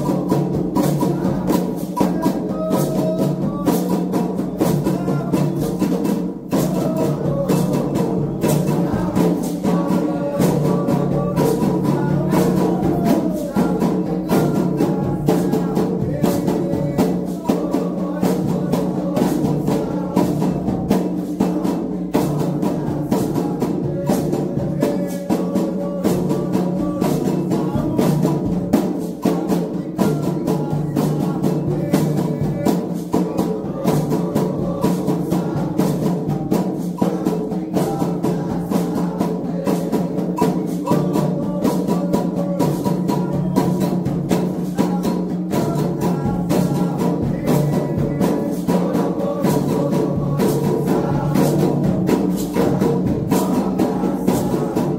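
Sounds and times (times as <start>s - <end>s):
chorus of voices singing: 0.0s - 54.9s
hand drums beating fast rhythm: 0.0s - 54.9s.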